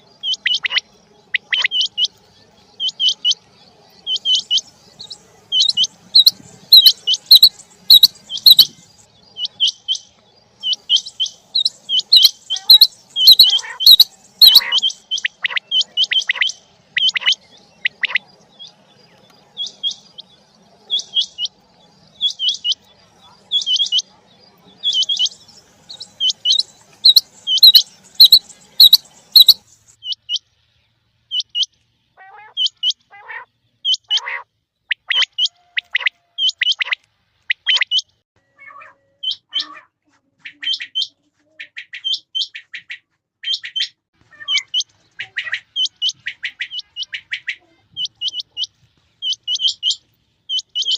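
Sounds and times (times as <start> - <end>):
quail calling: 0.0 - 2.2, 2.8 - 3.4, 4.0 - 4.7, 5.5 - 18.7, 22.2 - 30.4, 31.3 - 50.9.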